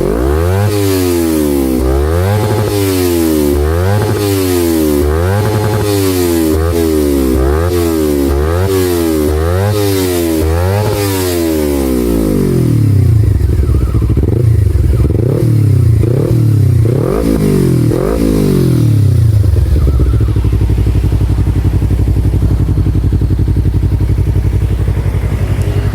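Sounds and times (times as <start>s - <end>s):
motorcycle engine idling: 0.0s - 25.9s
motorcycle engine revving: 0.0s - 25.9s.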